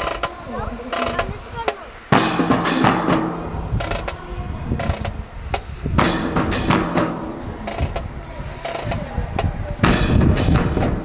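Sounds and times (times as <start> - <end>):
drum corps playing cadence: 0.0 - 9.1, 9.8 - 11.0.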